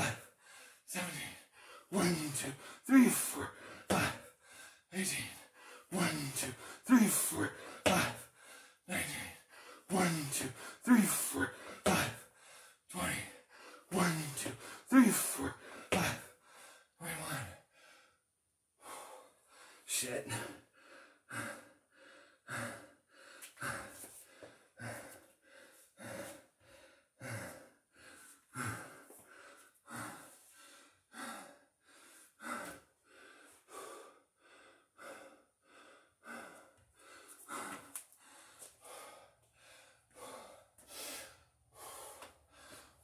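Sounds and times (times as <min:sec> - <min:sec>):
man breathing heavily: 0:00.0 - 0:43.0.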